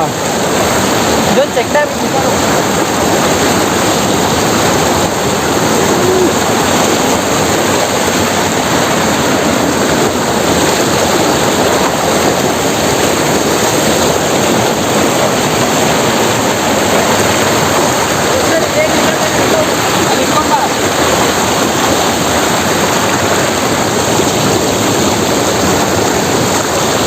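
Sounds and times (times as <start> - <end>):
water rushing over weir: 0.0 - 27.0.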